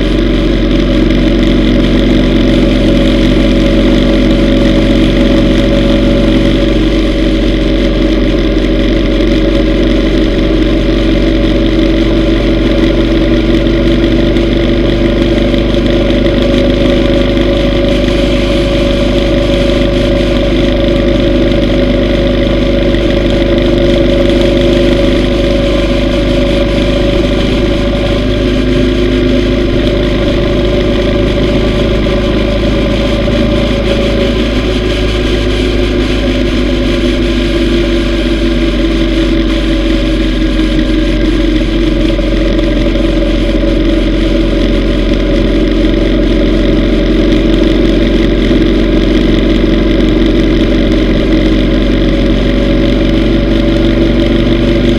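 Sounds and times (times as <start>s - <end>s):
motorcycle engine running steadily: 0.0s - 54.9s.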